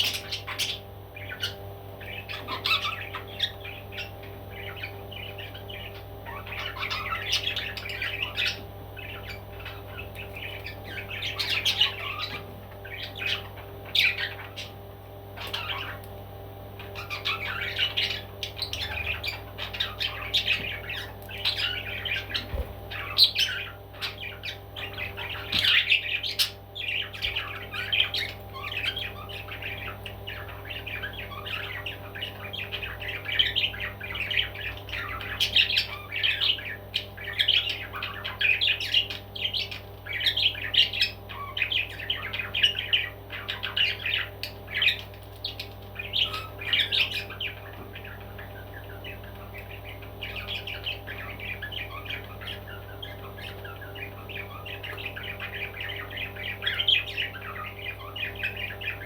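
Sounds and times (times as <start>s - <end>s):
parrot squawking and chirping: 0.0s - 59.0s.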